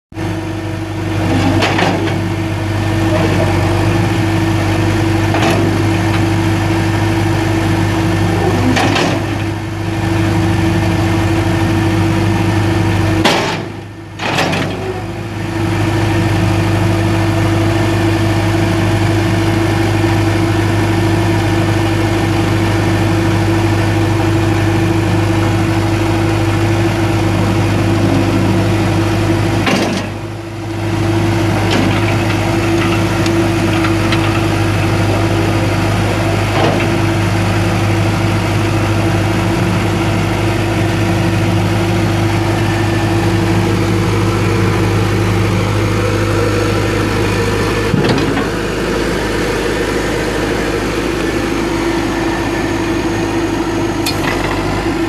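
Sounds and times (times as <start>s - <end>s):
diesel engine idling: 0.2s - 55.0s.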